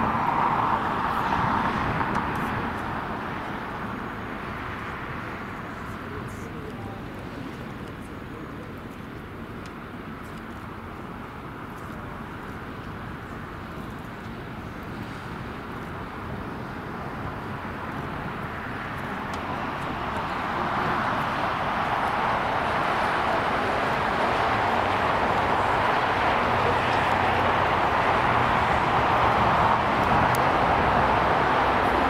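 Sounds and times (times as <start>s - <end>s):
jet engines taxiing: 0.0s - 32.0s.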